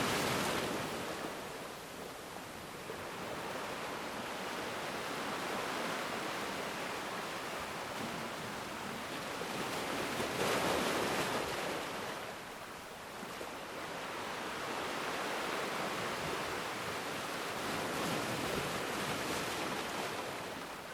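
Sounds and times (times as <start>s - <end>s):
ocean waves breaking on shore: 0.0s - 20.9s.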